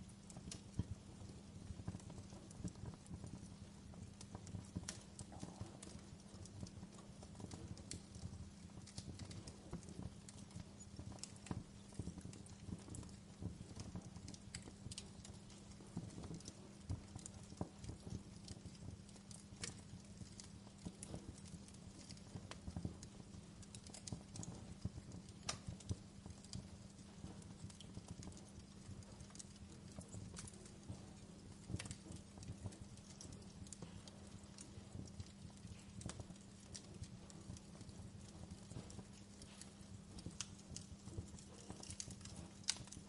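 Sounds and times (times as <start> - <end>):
low rumble of flames: 0.0 - 43.0
firewood popping and snapping: 0.1 - 43.0.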